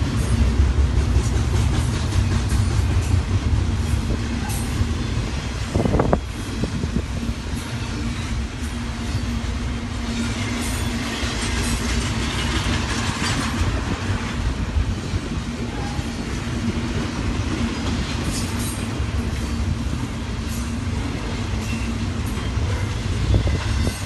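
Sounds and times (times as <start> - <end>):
train wheels rumbling and clacking: 0.0 - 24.0.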